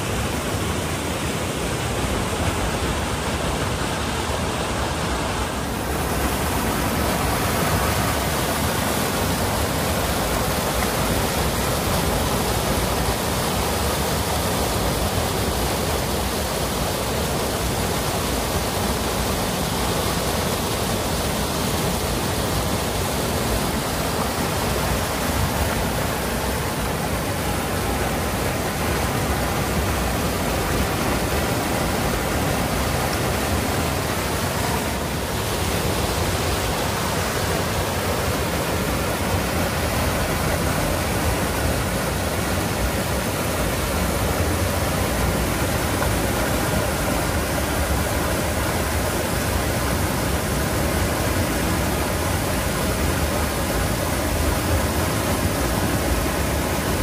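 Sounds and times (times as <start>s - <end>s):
water rushing over drain step: 0.0s - 57.0s.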